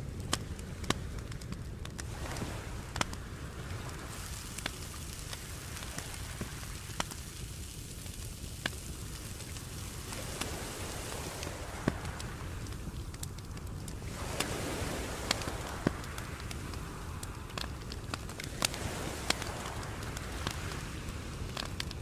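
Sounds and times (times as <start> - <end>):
sharp pops and crackles: 0.0 - 22.0.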